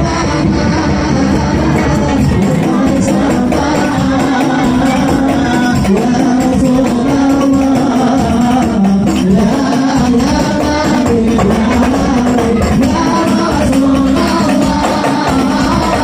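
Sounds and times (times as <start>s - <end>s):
frame drums beating: 0.0s - 16.0s
man singing through microphone: 0.0s - 16.0s.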